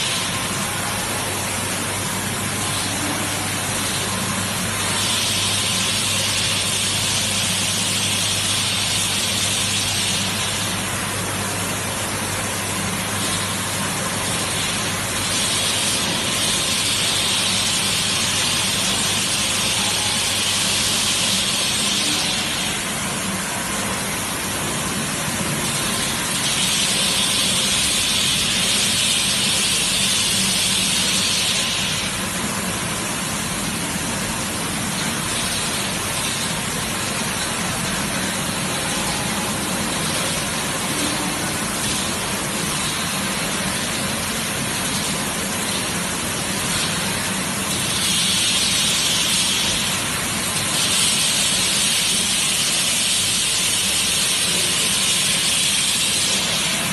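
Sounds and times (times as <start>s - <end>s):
bottling line mechanical hum: 0.0s - 56.9s
loud hiss: 0.0s - 56.9s.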